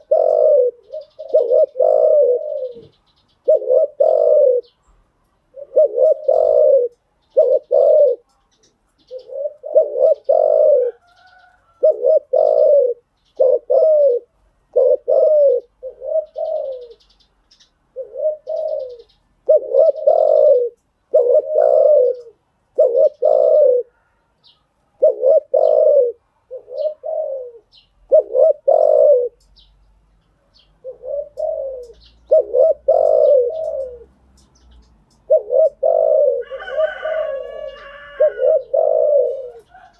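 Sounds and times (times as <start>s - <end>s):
dove cooing: 0.0s - 29.6s, 30.6s - 39.9s.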